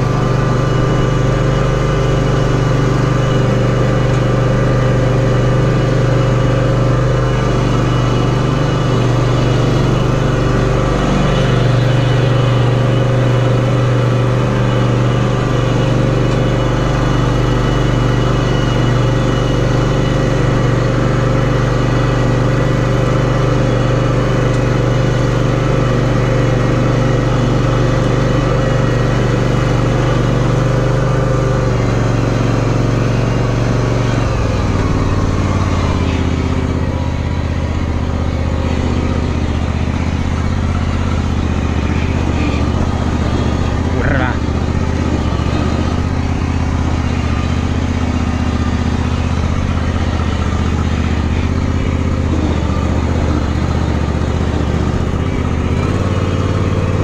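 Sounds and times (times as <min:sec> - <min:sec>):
lawn tractor engine running: 0:00.0 - 0:57.0.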